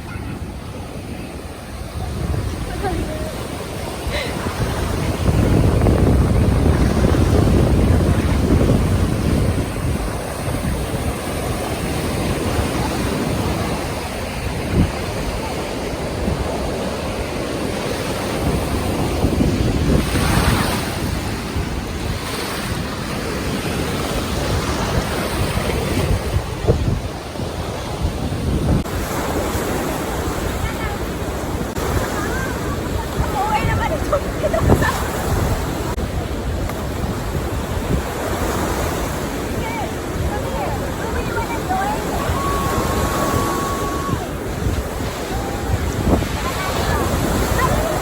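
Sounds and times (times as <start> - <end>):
waves washing onto beach: 0.0 - 48.0
wind buffeting microphone: 0.0 - 48.0.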